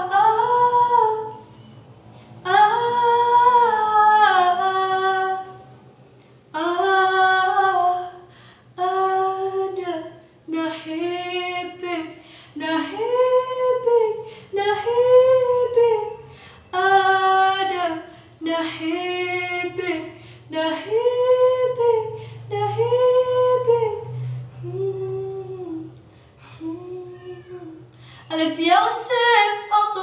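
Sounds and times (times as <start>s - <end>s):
woman singing wordless held notes: 2.4s - 5.6s, 6.5s - 30.0s.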